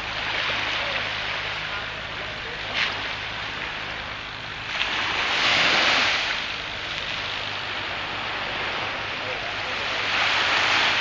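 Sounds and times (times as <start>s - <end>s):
sea waves washing onto beach: 0.0s - 11.0s.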